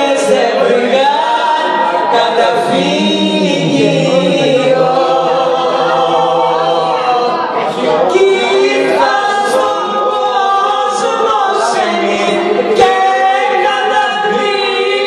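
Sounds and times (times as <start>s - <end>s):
man and woman singing: 0.0s - 15.0s.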